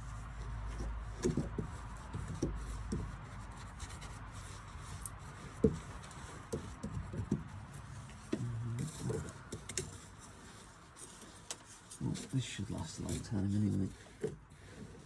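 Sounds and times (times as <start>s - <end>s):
scraping and rubbing inside forge: 0.0s - 15.0s.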